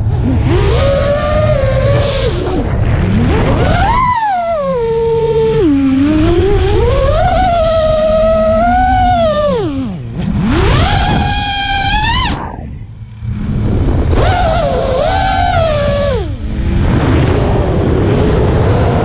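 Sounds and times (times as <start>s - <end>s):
drone motors whining: 0.0s - 19.0s
low rush of wind: 0.0s - 19.0s.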